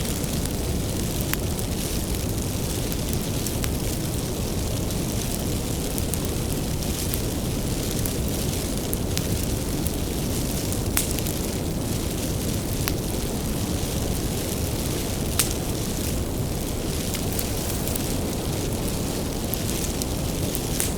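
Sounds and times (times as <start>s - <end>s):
fire crackles and pops: 0.0s - 20.9s
wood fire rumbling: 0.0s - 20.9s.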